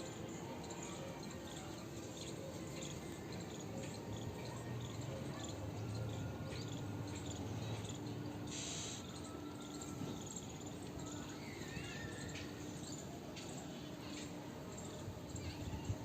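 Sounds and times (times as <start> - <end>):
steady background hum: 0.0 - 16.0
small birds chirping: 0.2 - 16.0.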